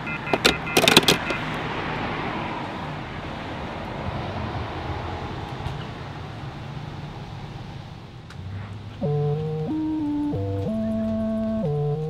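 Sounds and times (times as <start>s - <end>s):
night street rumble and hiss: 0.0s - 12.0s.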